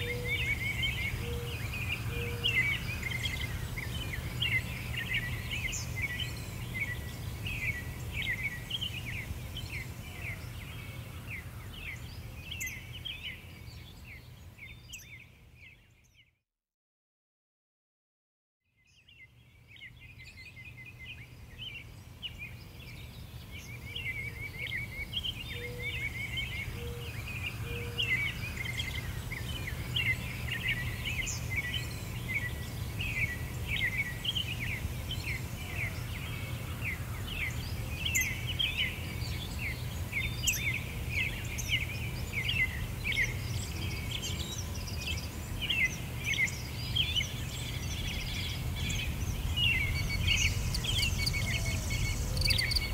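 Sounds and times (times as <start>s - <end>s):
chorus of birds chirping: 0.0s - 16.2s, 18.9s - 52.9s.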